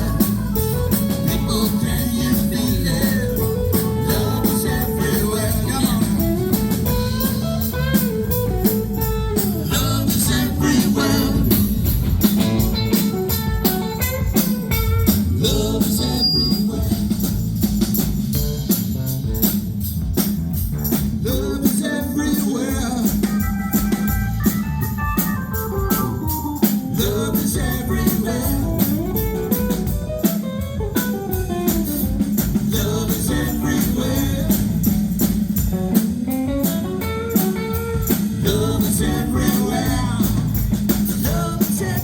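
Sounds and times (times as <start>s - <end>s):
electric guitar lead: 0.0s - 16.9s, 23.0s - 41.1s
blues rock band playing: 0.0s - 42.0s.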